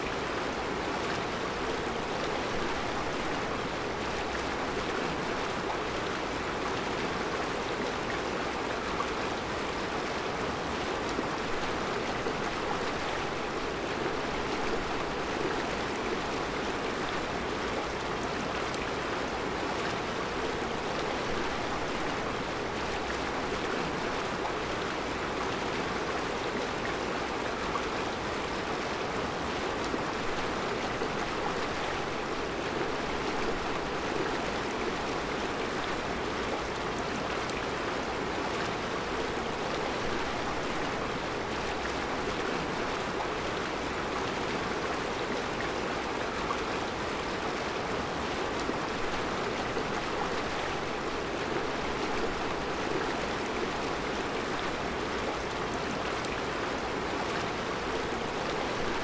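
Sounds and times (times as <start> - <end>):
river flowing over stones: 0.0 - 59.0.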